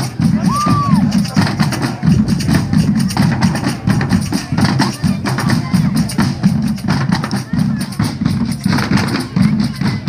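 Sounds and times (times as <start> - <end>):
drums and hand percussion: 0.0 - 10.0
voices: 0.0 - 10.0.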